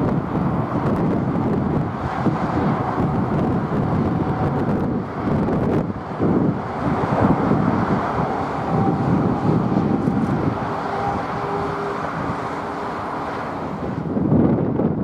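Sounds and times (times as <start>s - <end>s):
jet engines rumbling: 0.0s - 15.0s
wind buffeting microphone: 0.0s - 15.0s.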